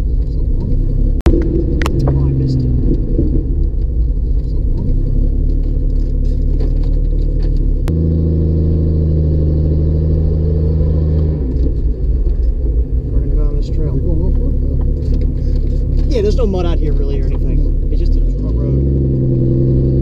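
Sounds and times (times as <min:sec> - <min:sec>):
vehicle cabin engine and tyre drone: 0:00.0 - 0:20.0.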